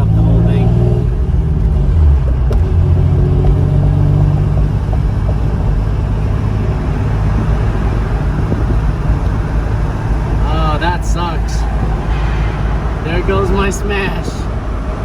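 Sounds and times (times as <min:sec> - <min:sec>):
car engine exhaust drone: 0:00.0 - 0:15.0.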